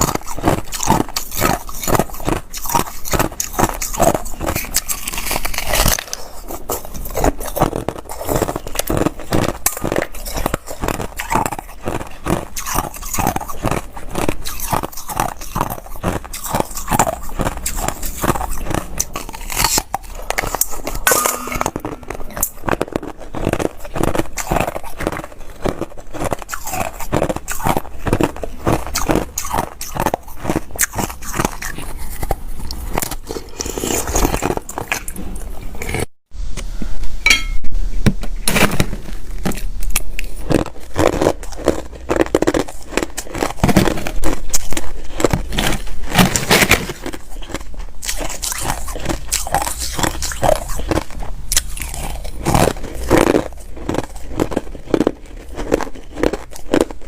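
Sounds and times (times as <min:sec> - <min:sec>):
person chewing ice crunching: 0:00.0 - 0:36.1, 0:38.5 - 0:57.0.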